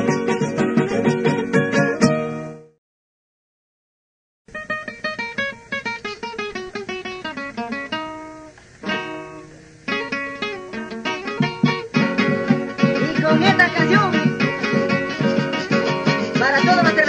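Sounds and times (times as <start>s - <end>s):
acoustic guitar picking and strumming: 0.0s - 2.8s, 4.5s - 17.0s.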